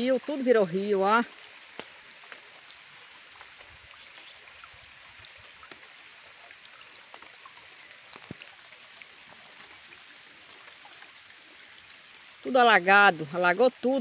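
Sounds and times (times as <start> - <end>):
raindrops ticking: 0.0 - 14.0
soft rain hiss: 0.0 - 14.0.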